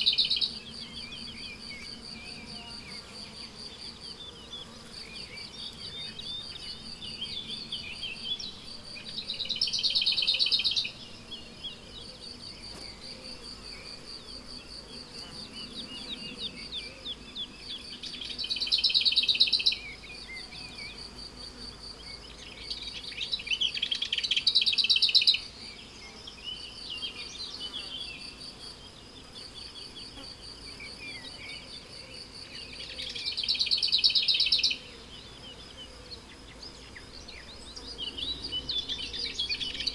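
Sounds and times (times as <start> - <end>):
crickets trilling: 0.0 - 39.9
small birds singing: 0.0 - 39.9.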